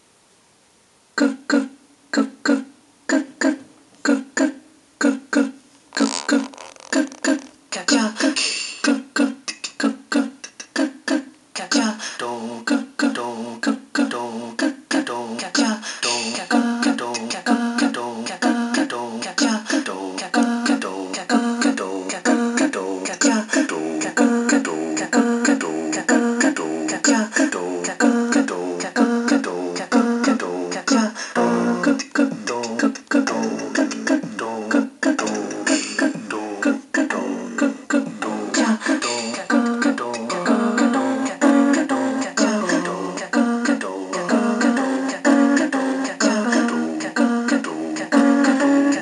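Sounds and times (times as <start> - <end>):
digitized vocal chip music: 1.2 - 49.0.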